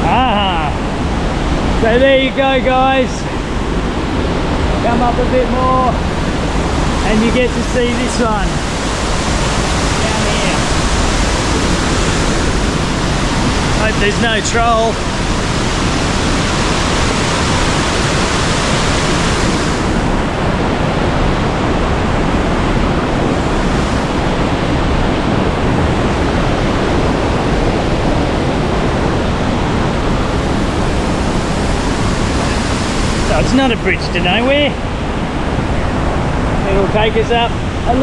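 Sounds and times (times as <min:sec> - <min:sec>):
waterfall rushing: 0:02.6 - 0:38.0.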